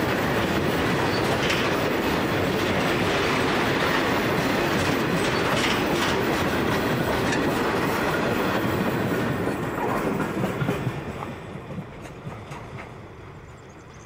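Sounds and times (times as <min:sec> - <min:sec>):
train wheels clacking on rails: 0:00.0 - 0:14.0.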